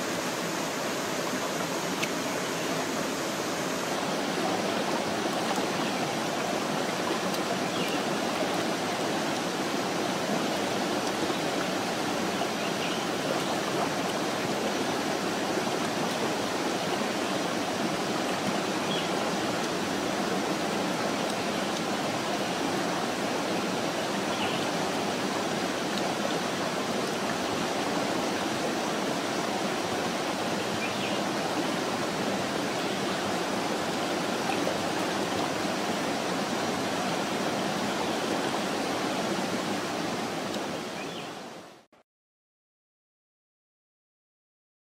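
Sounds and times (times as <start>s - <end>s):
stream rushing over rocks: 0.0s - 41.9s.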